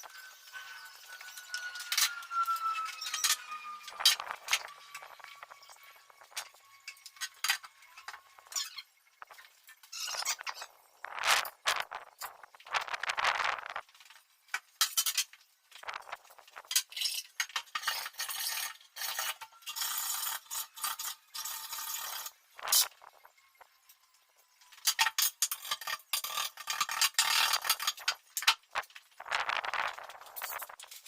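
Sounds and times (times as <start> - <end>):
small hard objects clinking: 0.0 - 23.9, 24.6 - 31.0.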